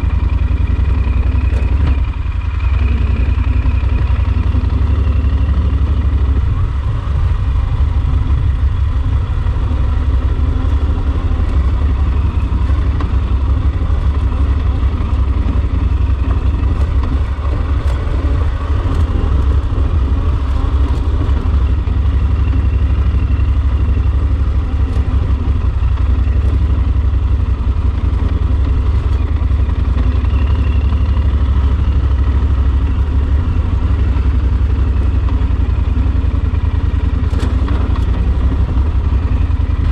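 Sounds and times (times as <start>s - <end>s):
motorcycle engine low rumble: 0.0s - 39.9s.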